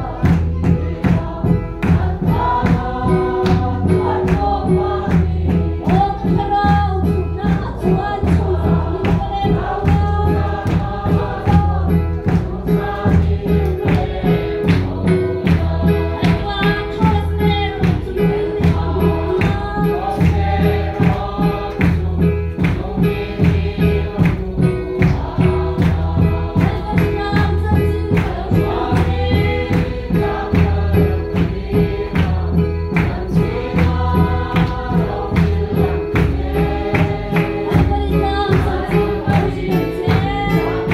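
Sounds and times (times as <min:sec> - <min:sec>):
congregation singing a hymn: 0:00.0 - 0:40.9
hand-clapping: 0:00.0 - 0:40.9
steady driving beat: 0:00.0 - 0:40.9.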